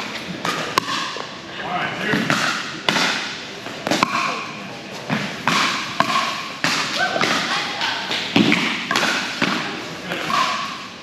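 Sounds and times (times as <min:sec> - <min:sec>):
paddles striking pickleball: 0:00.1 - 0:01.3, 0:02.1 - 0:04.5, 0:05.1 - 0:10.8.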